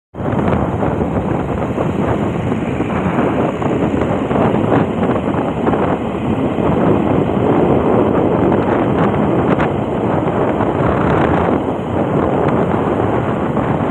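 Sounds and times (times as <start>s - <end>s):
vehicle road and motor noise: 0.2s - 13.9s
wind buffeting microphone: 0.2s - 13.9s.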